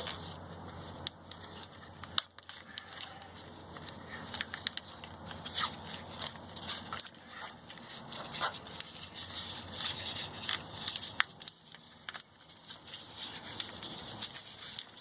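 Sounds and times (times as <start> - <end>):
plastic wiring crackling and scraping: 0.0 - 15.0.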